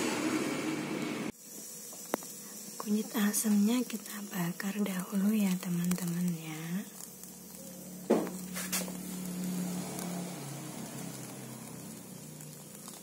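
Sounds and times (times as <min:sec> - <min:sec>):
gas burner flame hissing: 0:00.0 - 0:13.0.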